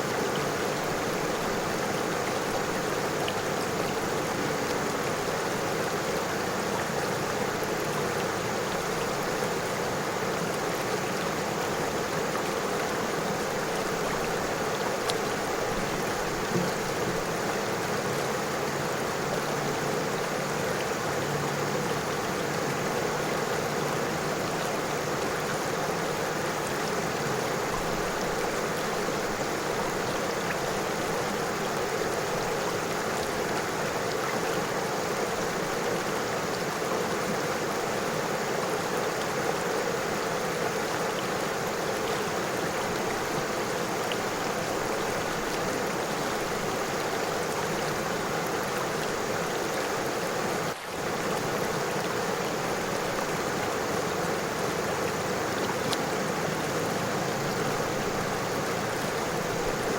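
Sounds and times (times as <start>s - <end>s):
river rippling over stones: 0.0s - 59.9s.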